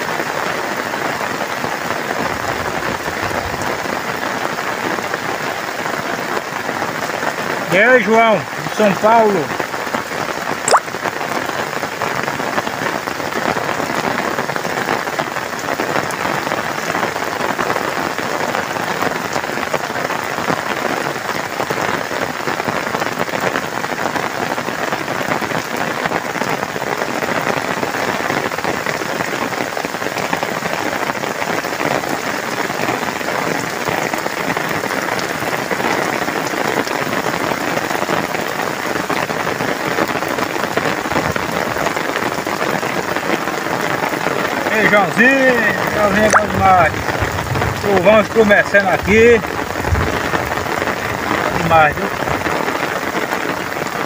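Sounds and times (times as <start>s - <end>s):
heavy rain on muddy ground: 0.0s - 54.0s.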